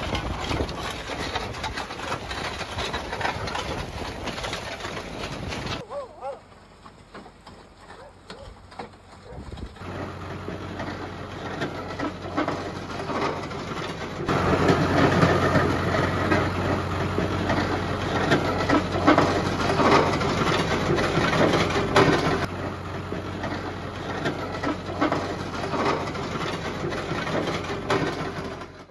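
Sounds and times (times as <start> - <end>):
leveller scraping over gravel: 0.0 - 28.9
tractor engine running: 0.0 - 28.9.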